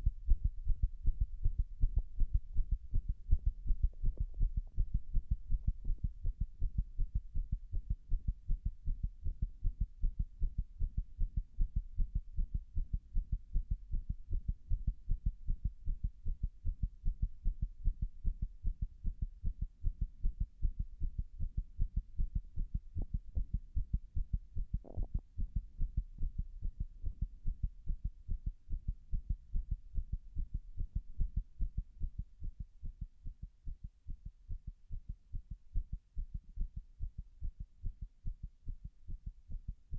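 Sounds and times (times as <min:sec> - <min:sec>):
heartbeat: 0:00.0 - 0:39.9.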